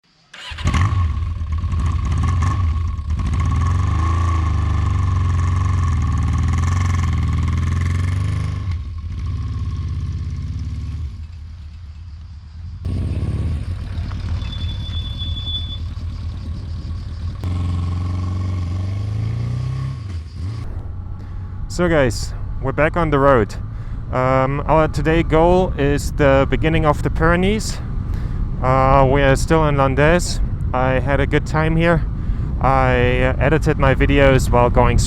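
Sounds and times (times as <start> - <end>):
motorcycle engine running: 0.4 - 12.0, 12.6 - 35.0.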